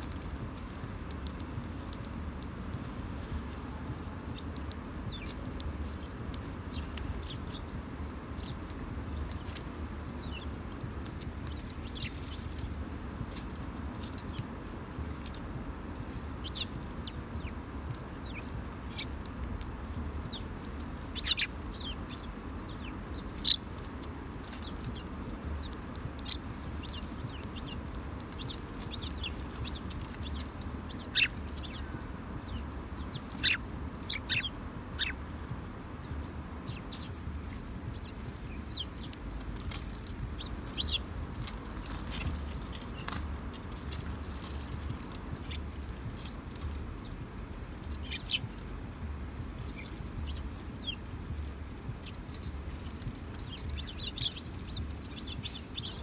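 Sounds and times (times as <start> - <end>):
low background rumble: 0.0 - 56.0
sparrows chirping: 0.0 - 56.0.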